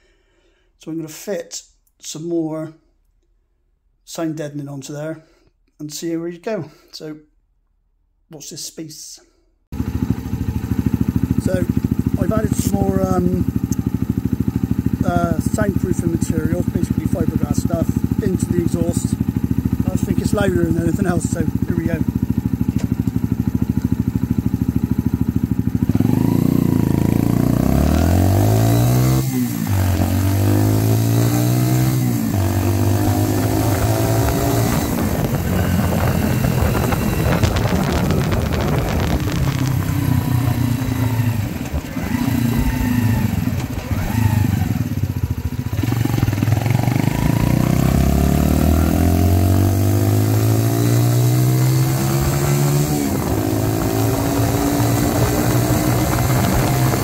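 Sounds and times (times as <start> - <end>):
motorcycle engine revving: 9.7 - 57.0.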